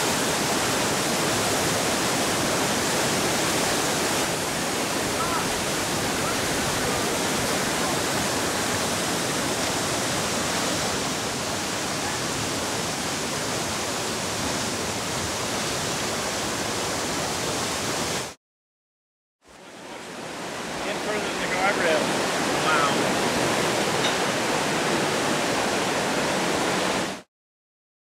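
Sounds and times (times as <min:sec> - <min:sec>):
floodwater rushing: 0:00.0 - 0:18.4, 0:19.5 - 0:27.3.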